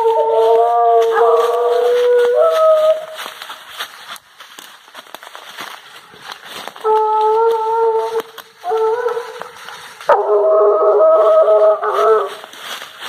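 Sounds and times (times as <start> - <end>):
hounds baying: 0.0 - 3.6, 5.4 - 12.9
brush crackling underfoot: 0.0 - 13.0.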